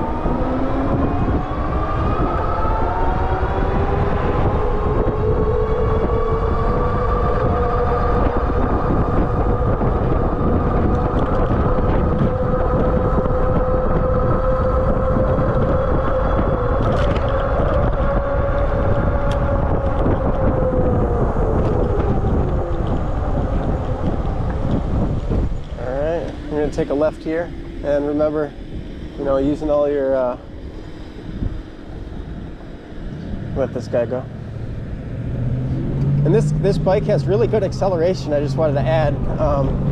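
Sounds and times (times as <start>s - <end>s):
electric motor whining: 0.0s - 39.9s
wind rush on microphone: 0.0s - 39.9s.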